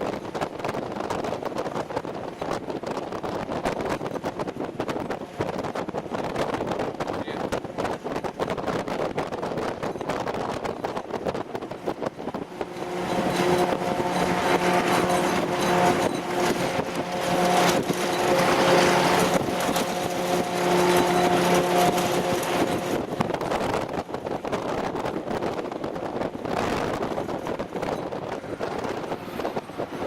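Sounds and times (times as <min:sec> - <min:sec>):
vehicle road noise: 0:00.0 - 0:30.0
engine whine: 0:00.1 - 0:30.0.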